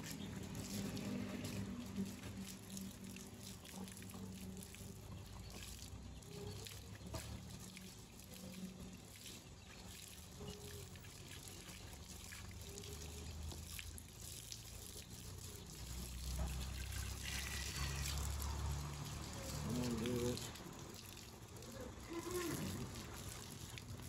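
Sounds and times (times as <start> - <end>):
hose water splashing: 0.0 - 24.0.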